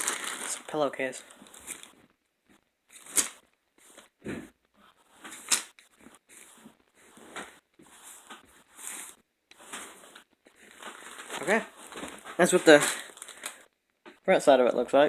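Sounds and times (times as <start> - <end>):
fabric and plastic wrapping rustling: 0.0 - 14.3.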